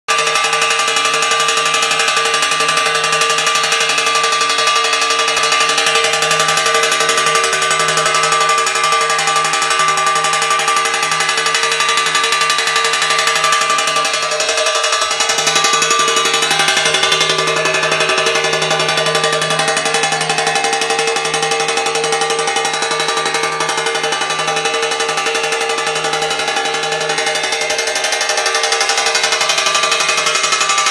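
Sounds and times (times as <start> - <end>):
motor-driven metallic rattle: 0.1 - 30.9.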